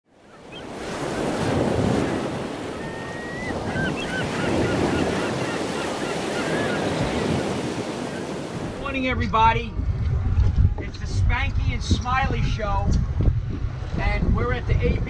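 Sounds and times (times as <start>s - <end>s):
wind: 0.0s - 15.0s
ocean surf washing: 0.1s - 15.0s.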